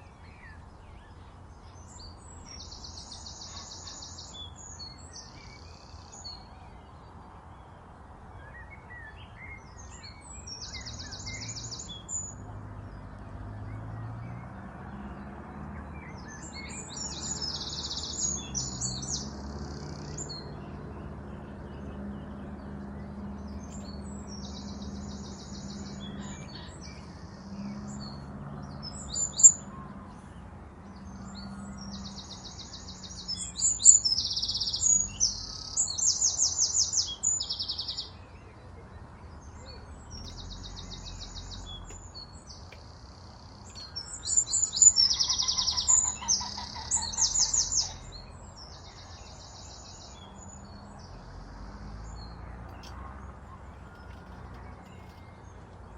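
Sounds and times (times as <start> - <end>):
small birds singing and chirping: 0.0 - 55.9.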